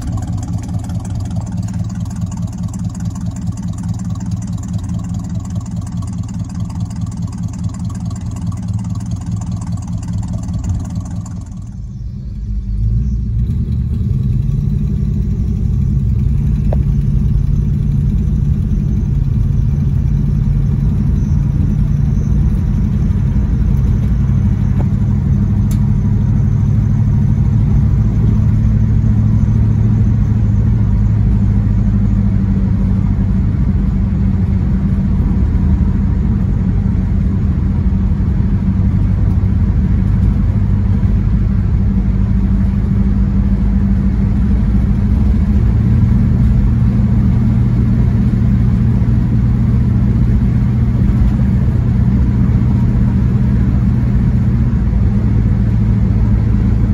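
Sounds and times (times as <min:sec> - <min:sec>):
car engine running steadily: 0:00.0 - 0:56.9
tyre and road noise: 0:07.3 - 0:56.9.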